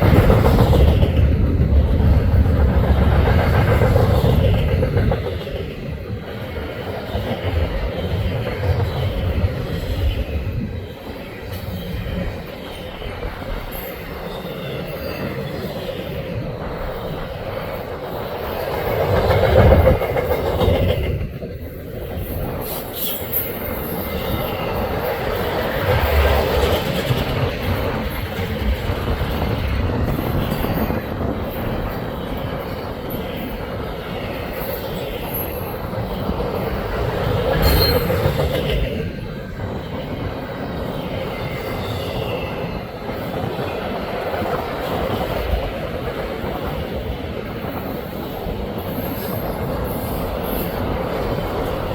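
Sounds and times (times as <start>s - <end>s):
freight train rolling past: 0.0s - 51.9s.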